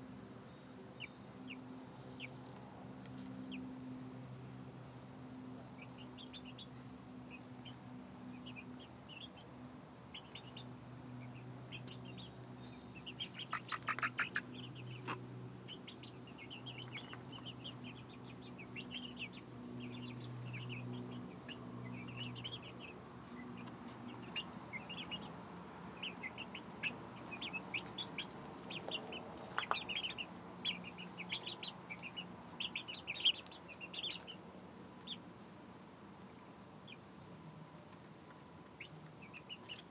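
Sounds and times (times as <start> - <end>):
steady low hum: 0.0 - 39.9
chicks peeping and chirping: 1.0 - 35.4, 37.8 - 39.9.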